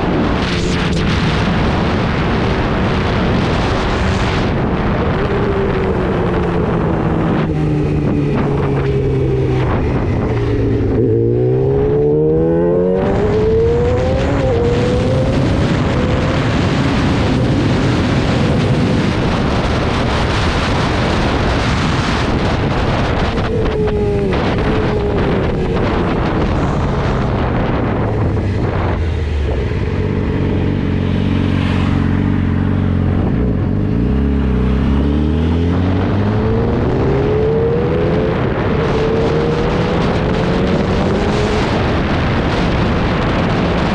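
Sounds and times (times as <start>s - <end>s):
motorcycle engine revving: 0.0s - 43.9s
wind noise on microphone: 0.0s - 43.9s.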